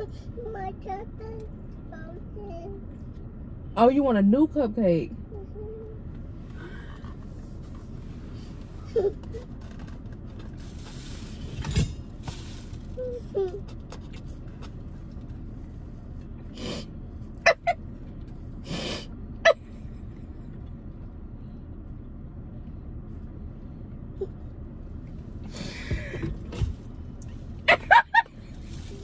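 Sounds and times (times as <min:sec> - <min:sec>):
car cabin rumble: 0:00.0 - 0:29.0.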